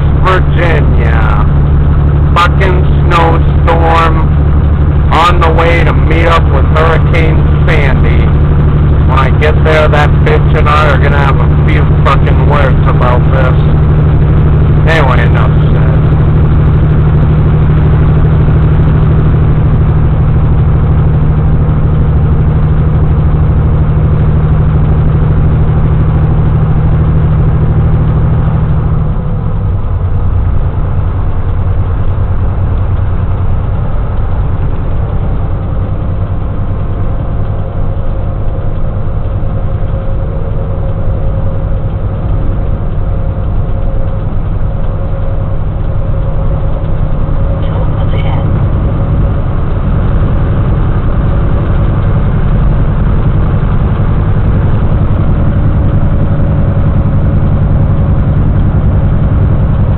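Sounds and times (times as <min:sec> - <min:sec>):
vehicle engine and road drone: 0:00.0 - 0:59.9.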